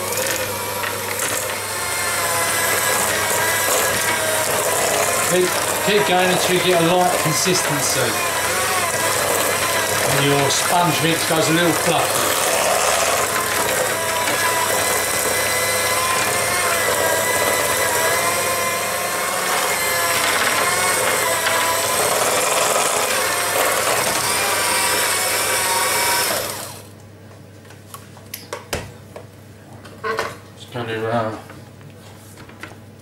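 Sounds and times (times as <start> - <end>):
electric hand mixer whining: 0.0 - 27.0.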